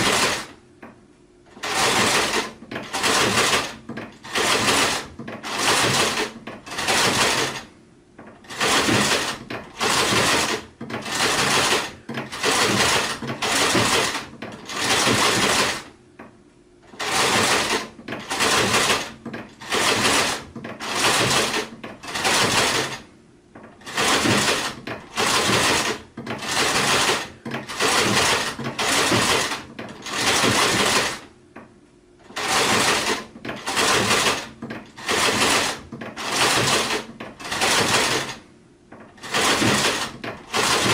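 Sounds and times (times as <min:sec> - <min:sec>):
sewing machine stitching: 0:00.0 - 0:00.6, 0:01.5 - 0:15.9, 0:16.8 - 0:31.3, 0:32.2 - 0:40.9.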